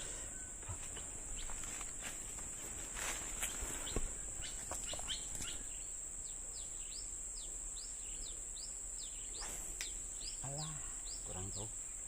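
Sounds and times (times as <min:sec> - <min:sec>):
bird chirping: 0:00.0 - 0:01.7, 0:03.4 - 0:12.0
insect drone: 0:00.0 - 0:12.0.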